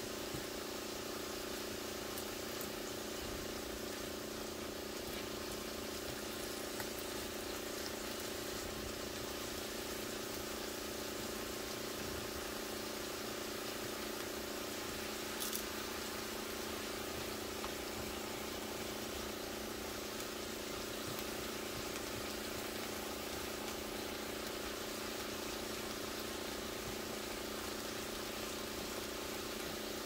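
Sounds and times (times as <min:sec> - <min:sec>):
steady hum: 0:00.0 - 0:30.0
vegetables sizzling in a frying pan: 0:00.0 - 0:30.0.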